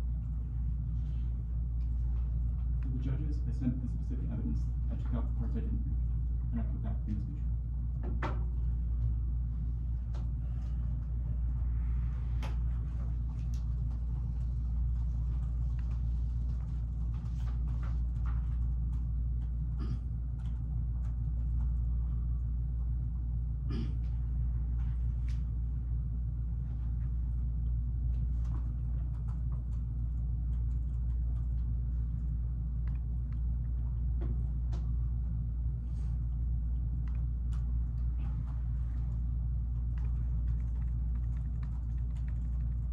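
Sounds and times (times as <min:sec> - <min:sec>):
low room hum: 0:00.0 - 0:42.9.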